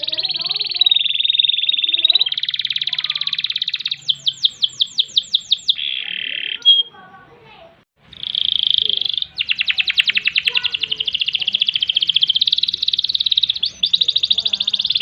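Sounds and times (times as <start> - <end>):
canary singing trills: 0.0 - 7.3, 8.0 - 15.0.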